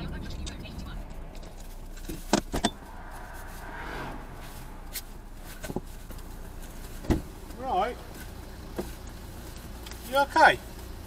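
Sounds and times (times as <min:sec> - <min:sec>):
low car hum: 0:00.0 - 0:11.0.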